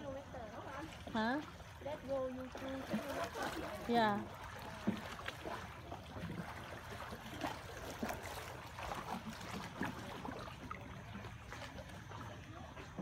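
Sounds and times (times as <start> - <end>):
paddle splashes and knocks: 0.0 - 13.0
water lapping against boat hull: 0.0 - 13.0.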